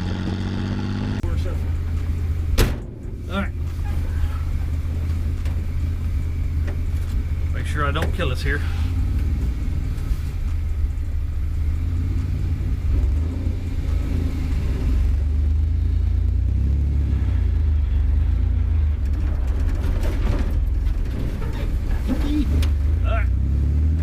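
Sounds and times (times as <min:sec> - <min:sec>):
engine running: 0:00.0 - 0:24.0
road noise: 0:00.0 - 0:24.0.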